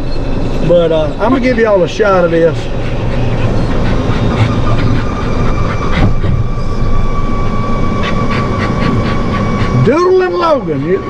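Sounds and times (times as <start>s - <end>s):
golf cart running rumble: 0.0s - 11.0s
thin steady whine: 0.0s - 11.0s.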